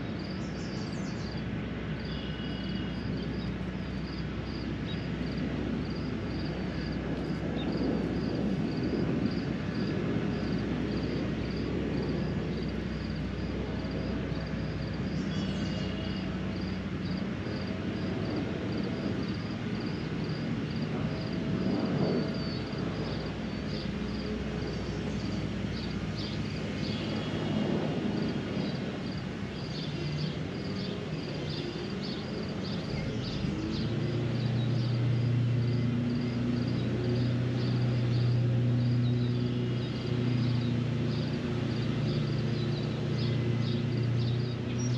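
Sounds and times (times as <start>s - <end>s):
distant traffic hum: 0.0s - 44.9s.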